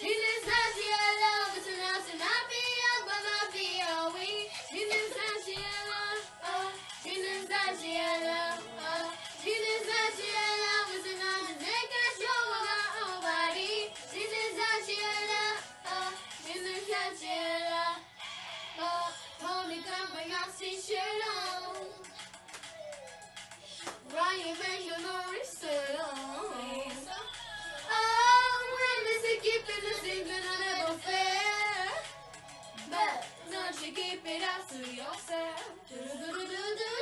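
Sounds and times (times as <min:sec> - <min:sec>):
girls singing: 0:00.0 - 0:18.1, 0:18.8 - 0:22.3, 0:23.8 - 0:37.0.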